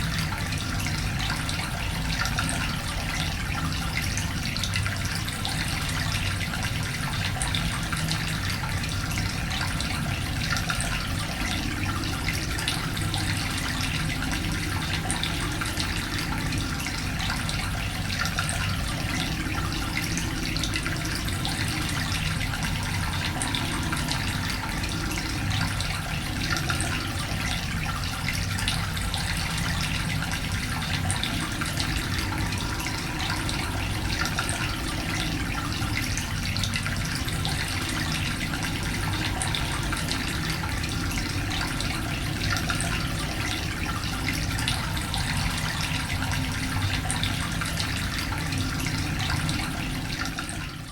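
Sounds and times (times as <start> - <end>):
echoing water drips: 0.0 - 50.9
running water: 0.0 - 50.9.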